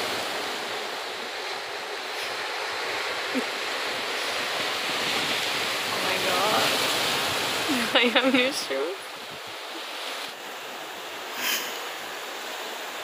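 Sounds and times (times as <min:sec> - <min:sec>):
surf washing over rocky shore: 0:00.0 - 0:13.0.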